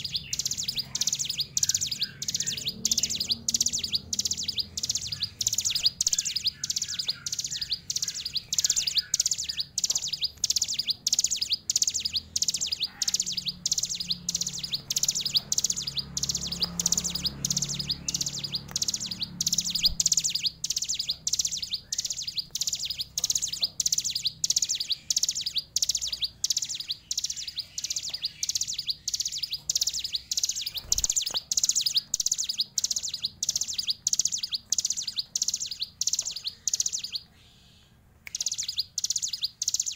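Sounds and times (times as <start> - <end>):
bird rapid chirping song: 0.0 - 39.9.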